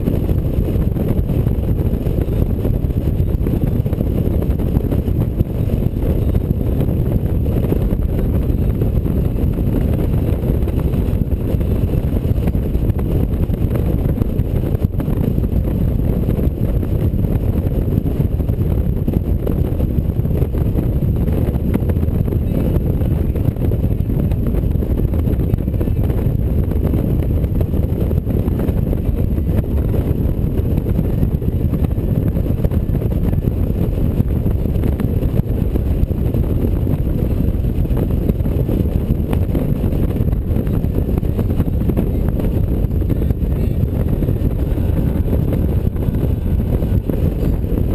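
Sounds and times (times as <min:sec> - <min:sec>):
motorcycle engine and tyre noise: 0:00.0 - 0:47.9
wind buffeting microphone: 0:00.0 - 0:47.9.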